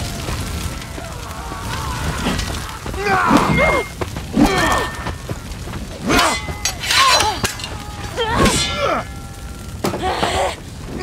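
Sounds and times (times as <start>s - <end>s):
fighters crying and grunting: 0.9s - 11.0s.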